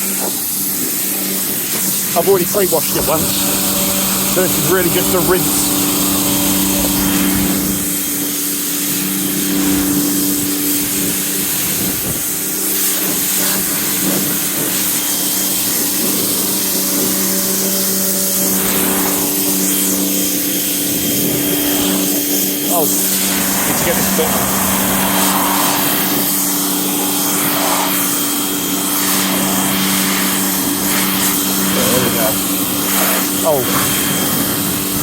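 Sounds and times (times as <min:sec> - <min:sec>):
pressure washer motor hum: 0:00.0 - 0:35.0
water jet spraying car: 0:00.0 - 0:35.0.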